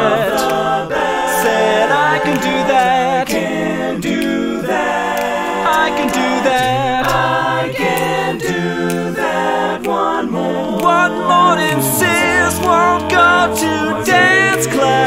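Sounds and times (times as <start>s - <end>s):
layered a cappella singing: 0.0s - 15.0s.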